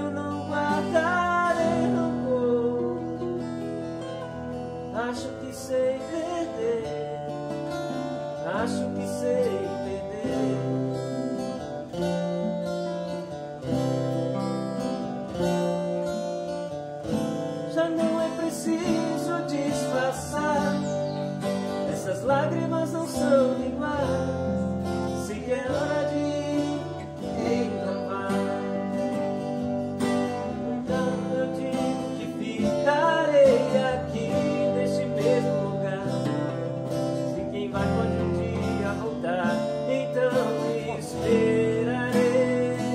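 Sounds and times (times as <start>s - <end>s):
acoustic guitars playing: 0.0s - 42.9s.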